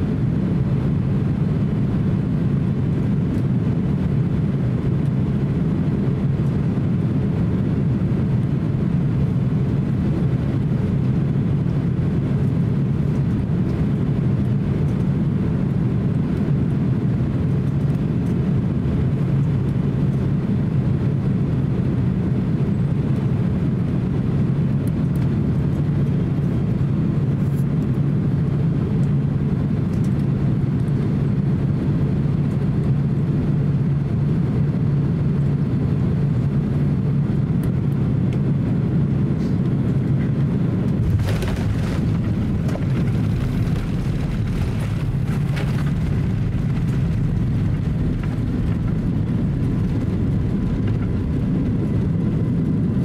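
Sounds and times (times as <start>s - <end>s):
airliner cabin engine drone: 0.0s - 53.0s.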